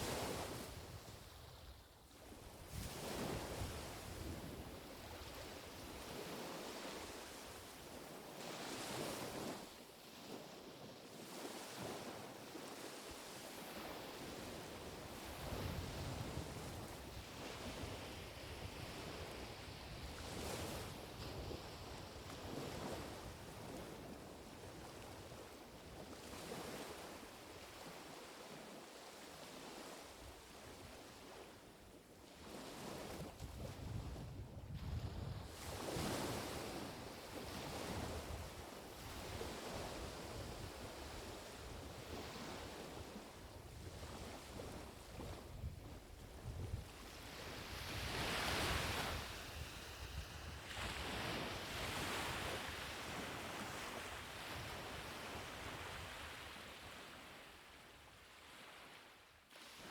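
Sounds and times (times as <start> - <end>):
gentle waves washing ashore: 0.0 - 59.9.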